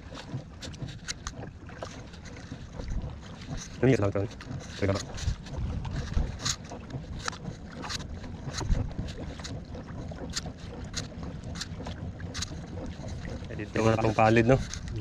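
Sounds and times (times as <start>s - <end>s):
wind buffeting microphone: 2.5s - 15.0s.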